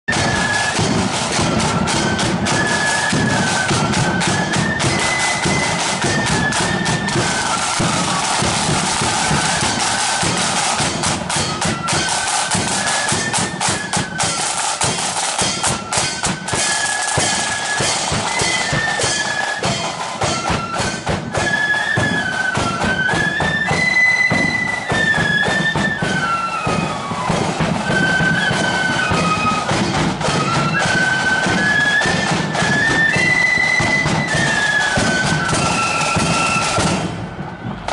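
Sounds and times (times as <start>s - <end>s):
side drums rolling: 0.0s - 37.9s
flutes playing melody: 0.1s - 37.9s.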